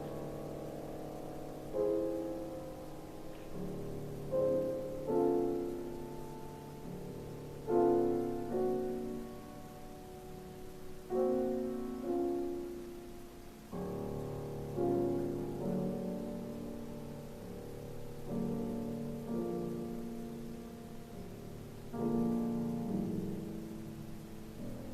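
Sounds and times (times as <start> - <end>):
slow piano chords: 0.0 - 24.9.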